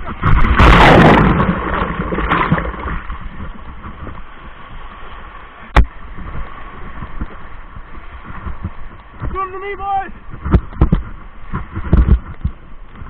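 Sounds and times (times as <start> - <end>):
churning water: 0.0 - 13.0
whitewater crashing and splashing: 0.0 - 13.0.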